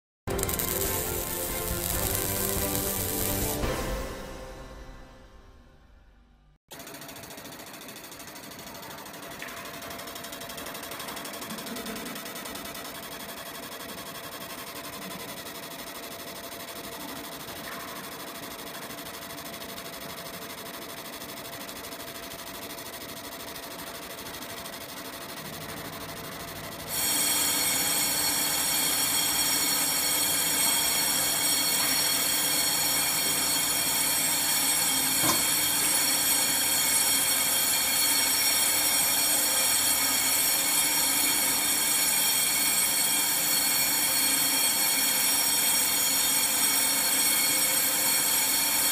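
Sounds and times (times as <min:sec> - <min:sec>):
laser marking machine whine: 0:00.3 - 0:05.2, 0:11.9 - 0:48.9.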